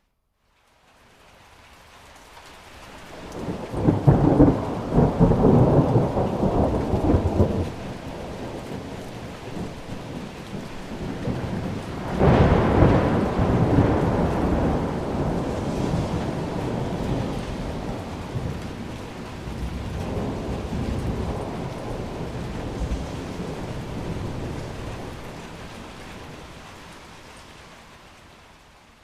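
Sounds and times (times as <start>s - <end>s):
steady rain: 0.3s - 29.0s
thunder rolling: 3.3s - 26.6s.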